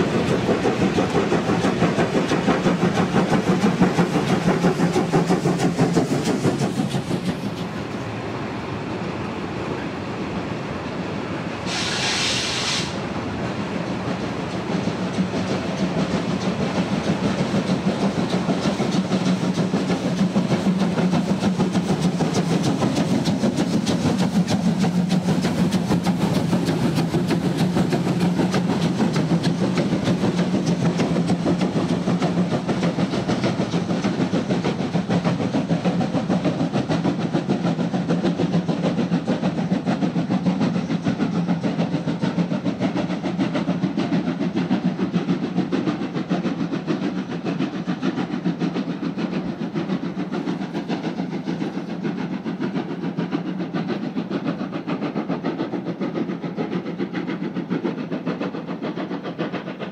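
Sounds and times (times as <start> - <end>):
steam locomotive exhaust beats: 0.0 - 59.9
train wheels rumbling and clattering: 0.0 - 59.9.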